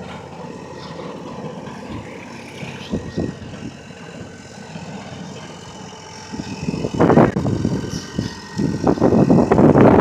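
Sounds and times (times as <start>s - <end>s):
large engine running: 0.0s - 10.0s.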